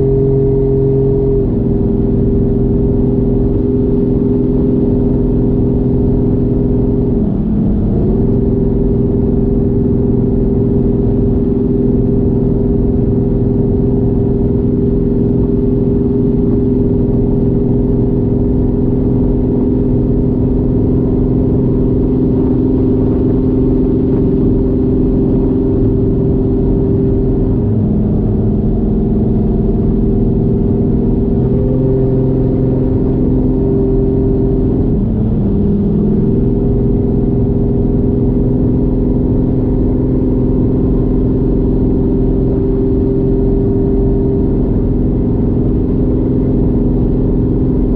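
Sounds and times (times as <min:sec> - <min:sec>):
car engine cruising from inside: 0:00.0 - 0:47.9.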